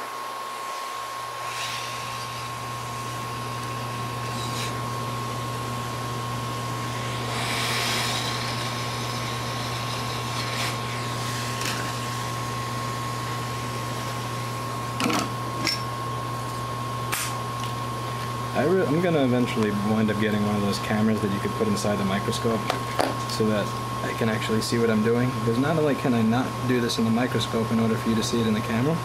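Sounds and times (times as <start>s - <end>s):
hot air blower humming: 0.0s - 29.0s.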